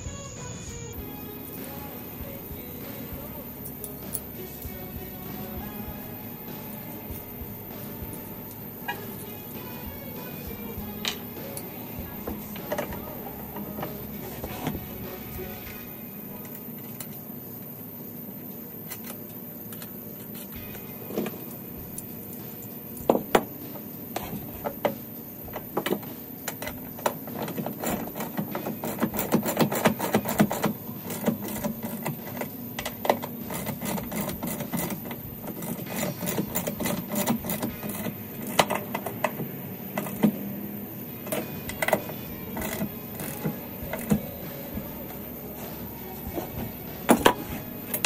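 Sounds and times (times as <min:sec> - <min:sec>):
low hum: 0:00.0 - 0:48.0.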